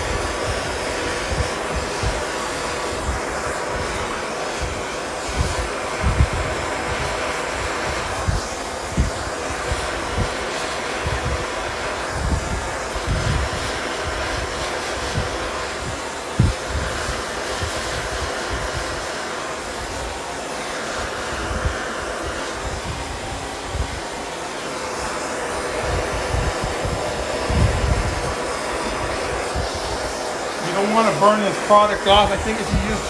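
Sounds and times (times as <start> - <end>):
gas torch roaring hiss: 0.0 - 33.0.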